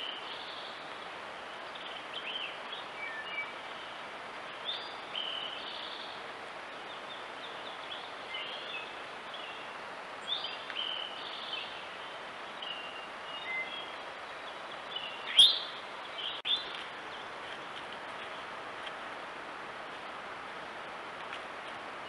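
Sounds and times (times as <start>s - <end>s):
songbirds chirping and whistling: 0.0s - 18.5s
steady background hiss: 0.0s - 22.0s.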